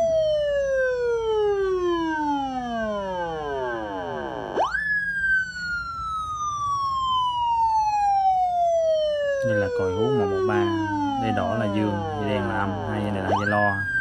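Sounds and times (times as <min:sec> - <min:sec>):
electronic siren wailing: 0:00.0 - 0:14.0.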